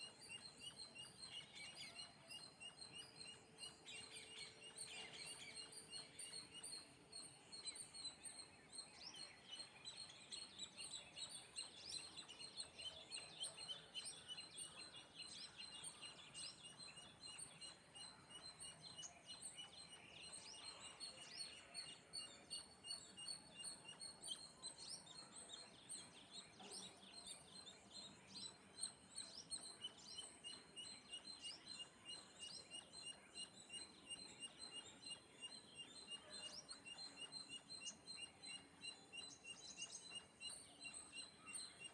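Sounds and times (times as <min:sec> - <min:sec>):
birds chirping faintly: 0:00.0 - 0:41.9.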